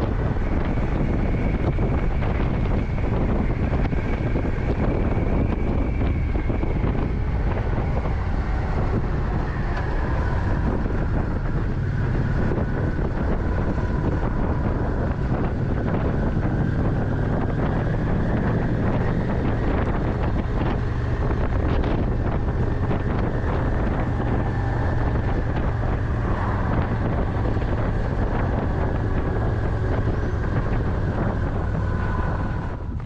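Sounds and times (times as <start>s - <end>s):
motorcycle engine drone: 0.0s - 33.0s
wind buffeting microphone: 0.0s - 33.0s.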